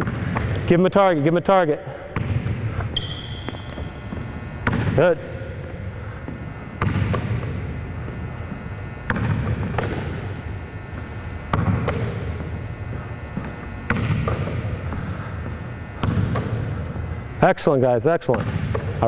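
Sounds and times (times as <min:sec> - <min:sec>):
basketball bouncing on gym floor: 0:00.0 - 0:17.2, 0:18.2 - 0:19.0.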